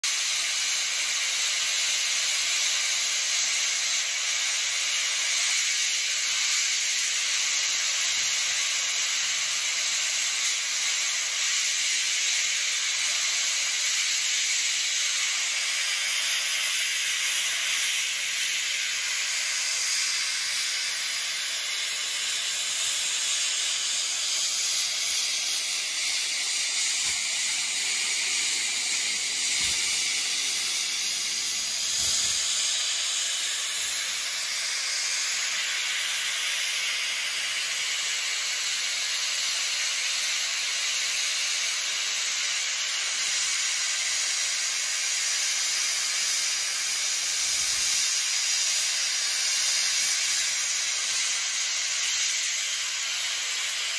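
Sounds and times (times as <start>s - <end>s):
steam locomotive hissing: 0.0s - 53.9s.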